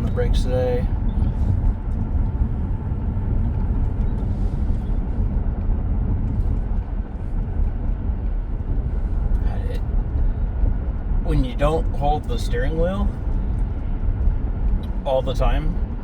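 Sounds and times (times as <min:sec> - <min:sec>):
road and tyre rumble in car cabin: 0:00.0 - 0:16.0.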